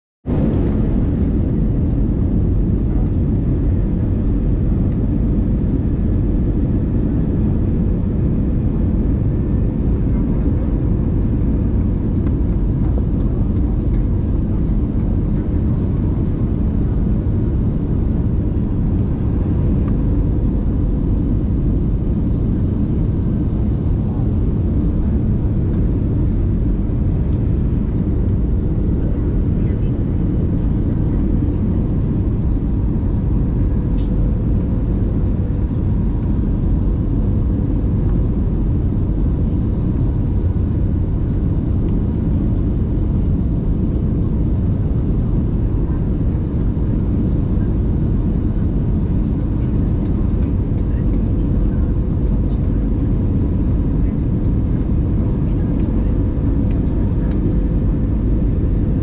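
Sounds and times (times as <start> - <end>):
jet engines and airflow rumble: 0.2 - 59.0.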